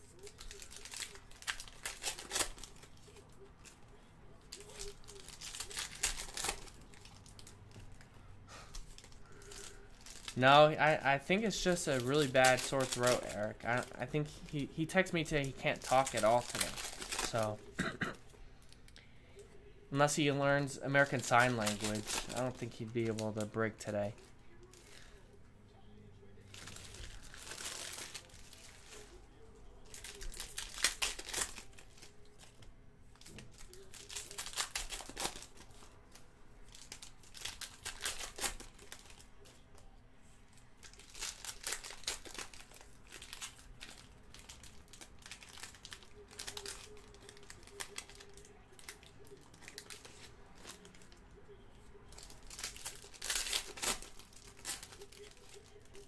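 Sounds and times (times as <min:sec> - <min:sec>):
foil wrappers tearing and crinkling: 0:00.0 - 0:03.8, 0:04.4 - 0:07.7, 0:08.7 - 0:17.7, 0:20.0 - 0:25.2, 0:26.4 - 0:39.7, 0:40.7 - 0:51.2, 0:52.0 - 0:56.0.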